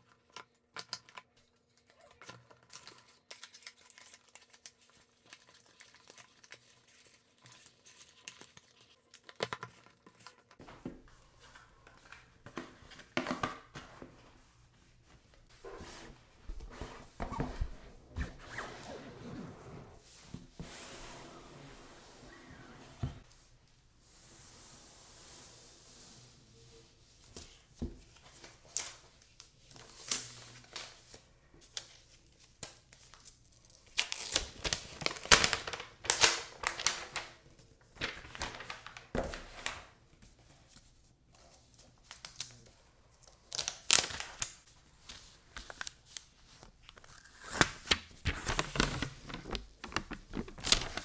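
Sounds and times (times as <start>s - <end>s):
paper and plastic rustling: 0.0s - 19.3s, 26.9s - 51.0s.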